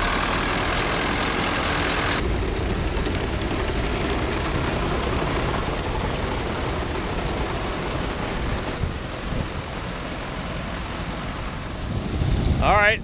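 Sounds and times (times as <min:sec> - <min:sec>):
tractor and baler running: 0:00.0 - 0:13.0
wind noise on microphone: 0:01.4 - 0:13.0.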